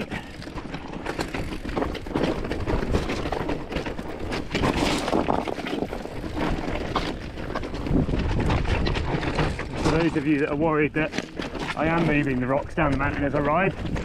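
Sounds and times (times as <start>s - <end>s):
bike rattling over rocks: 0.0s - 14.0s.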